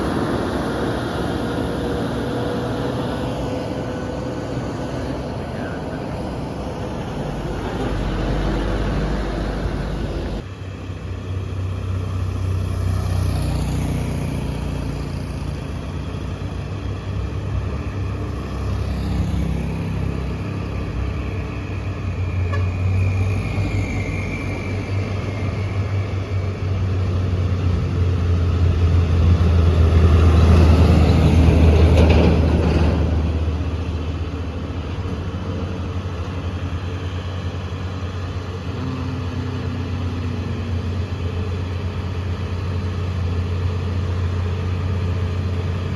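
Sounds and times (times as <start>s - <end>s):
truck diesel engine labouring: 0.0s - 45.9s.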